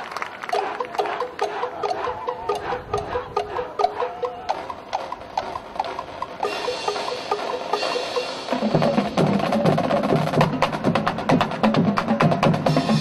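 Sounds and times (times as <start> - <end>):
wood-block-like percussion: 0.4 - 13.0
low brass and drums: 0.6 - 13.0.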